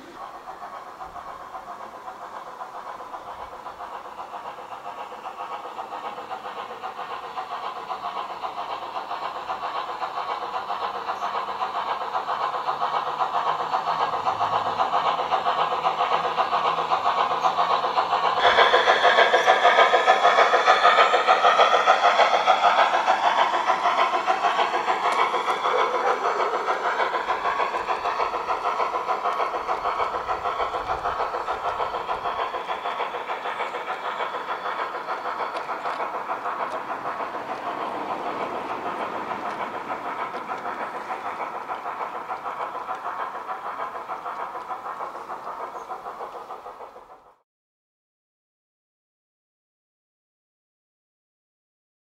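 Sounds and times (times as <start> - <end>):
model train running on track: 0.0 - 47.4.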